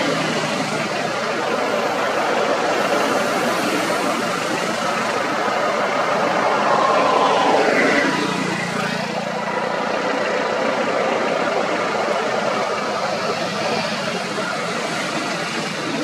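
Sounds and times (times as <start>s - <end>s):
traffic noise: 0.0s - 16.0s
vehicle engines idling: 0.0s - 16.0s.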